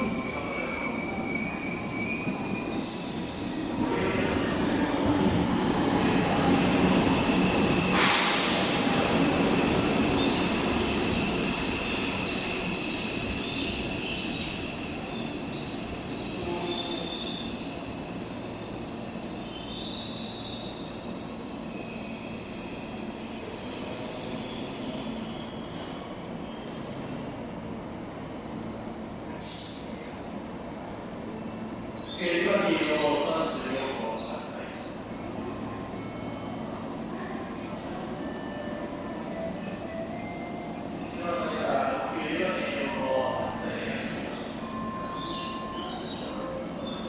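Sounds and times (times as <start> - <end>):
train wheels squealing on rails: 0.0 - 47.0.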